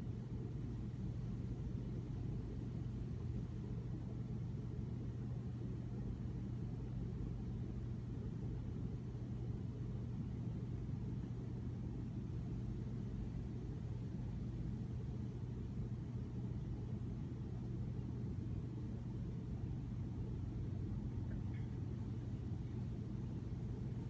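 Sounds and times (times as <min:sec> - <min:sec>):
room background hum and rumble: 0:00.0 - 0:24.0.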